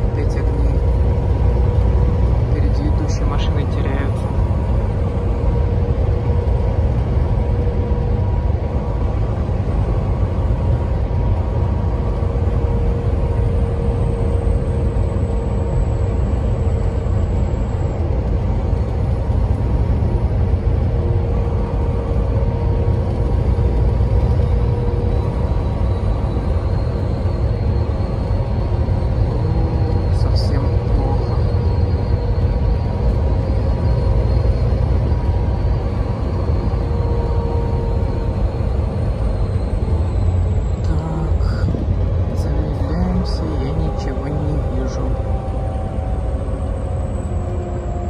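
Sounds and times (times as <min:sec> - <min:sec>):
constant hum: 0:00.0 - 0:48.0
truck engine and road rumble: 0:00.0 - 0:48.0.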